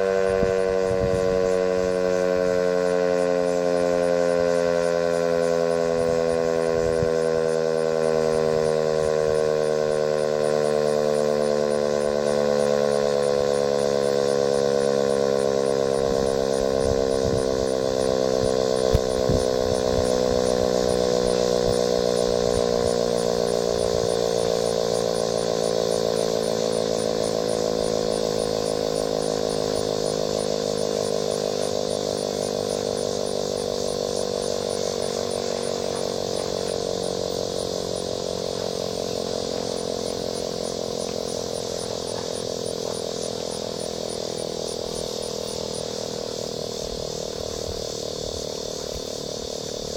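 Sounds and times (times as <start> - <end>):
warning siren winding down: 0.0 - 49.9.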